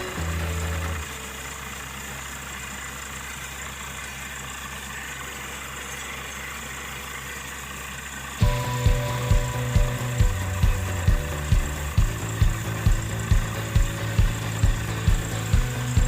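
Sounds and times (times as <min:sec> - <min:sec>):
drilling rig engine running: 0:00.0 - 0:16.0.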